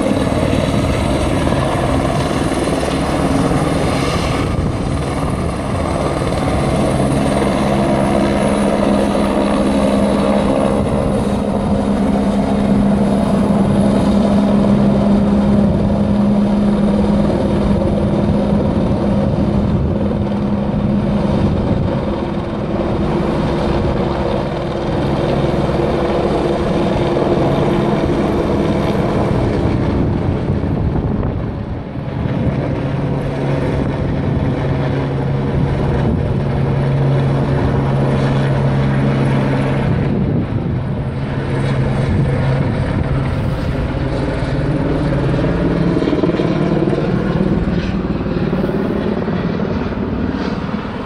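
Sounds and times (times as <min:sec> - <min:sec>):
helicopter flying overhead: 0:00.0 - 0:51.0.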